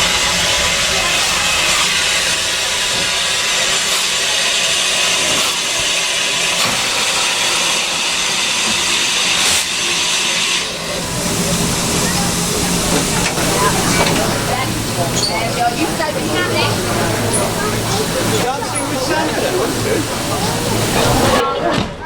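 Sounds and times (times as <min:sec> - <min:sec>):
steam locomotive hissing: 0:00.0 - 0:21.5.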